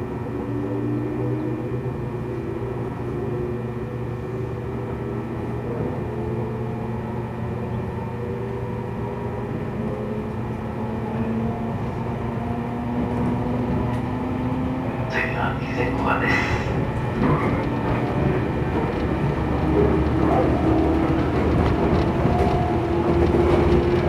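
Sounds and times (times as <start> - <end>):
train rail running noise: 0.0 - 24.0
train traction motor whine: 0.0 - 24.0.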